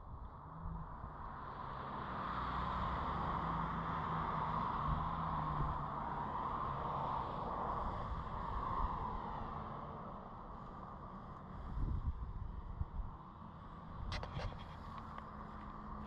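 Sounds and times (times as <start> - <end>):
highway traffic tyre noise: 0.0 - 16.0
low engine hum: 0.0 - 16.0.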